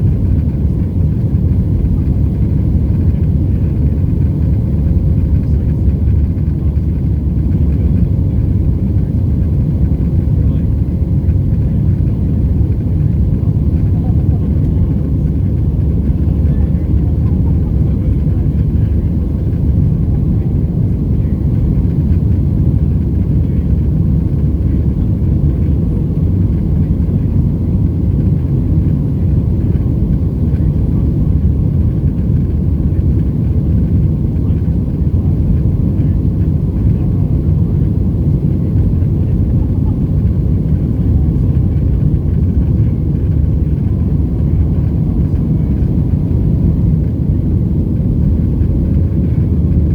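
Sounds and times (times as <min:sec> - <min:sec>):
jet engine cabin rumble: 0:00.0 - 0:49.9.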